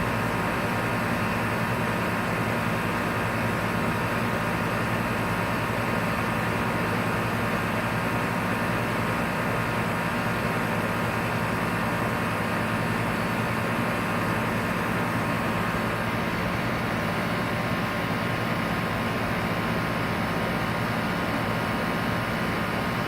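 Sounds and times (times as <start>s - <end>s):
air-conditioner compressor humming: 0.0s - 23.0s.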